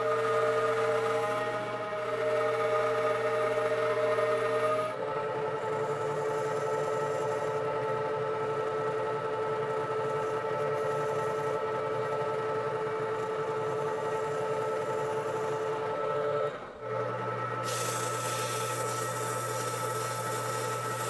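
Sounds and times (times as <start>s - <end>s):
metal lathe whining: 0.0s - 21.0s.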